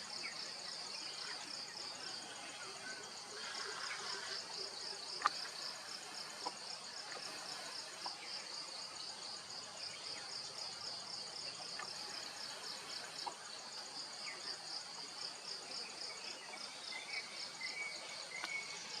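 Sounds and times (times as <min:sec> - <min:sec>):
insects chirping in pulses: 0:00.0 - 0:19.0.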